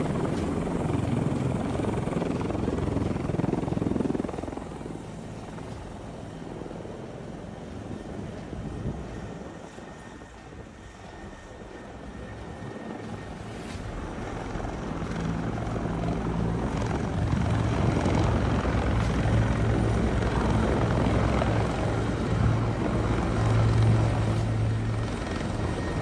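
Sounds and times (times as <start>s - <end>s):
helicopter rotor chopping: 0.0s - 26.0s.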